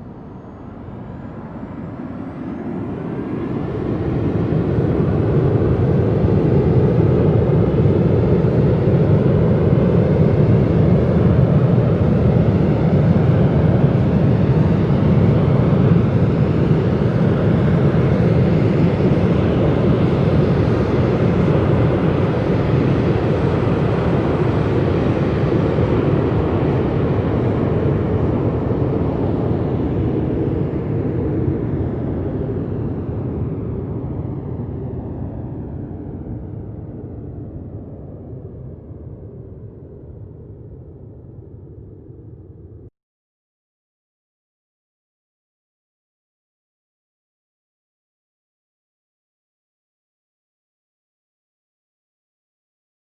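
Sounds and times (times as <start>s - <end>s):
jet engine rumble: 0.0s - 42.9s.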